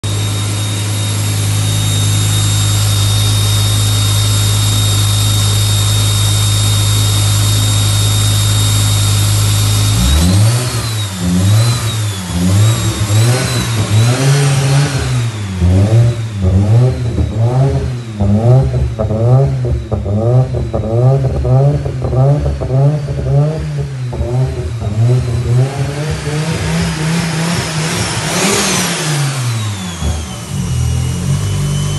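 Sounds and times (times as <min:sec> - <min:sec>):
car engine revving with high whine: 0:00.0 - 0:31.9.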